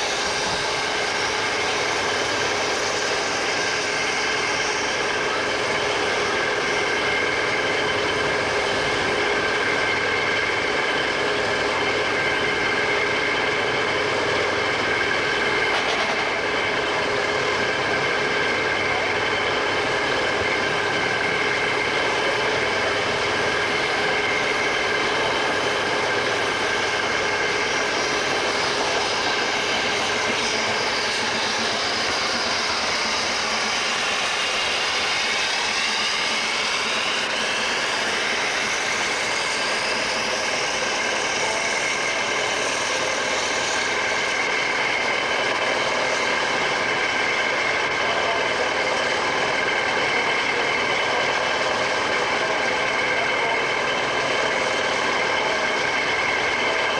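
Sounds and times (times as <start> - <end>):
diesel railcar droning: 0.0 - 56.9
steam locomotive passing: 0.0 - 56.9.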